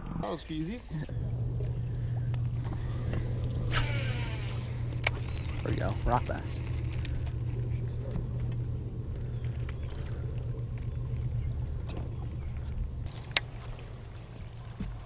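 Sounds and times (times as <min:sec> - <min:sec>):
boat motor humming: 0:00.0 - 0:15.0
faint high whine: 0:00.2 - 0:15.0.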